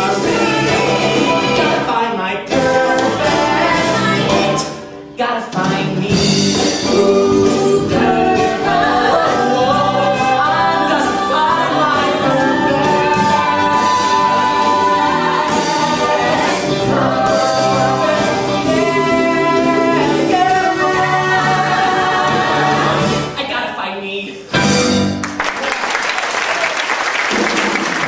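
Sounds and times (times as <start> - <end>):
instrumental accompaniment: 0.0 - 23.4
voices singing together: 0.0 - 23.4.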